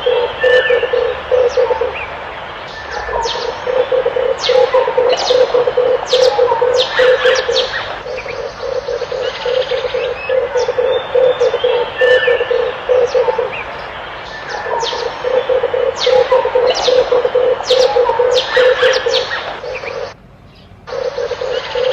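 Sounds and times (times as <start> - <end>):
dove cooing: 0.0 - 20.2, 20.9 - 21.9
small birds chirping: 0.0 - 21.9.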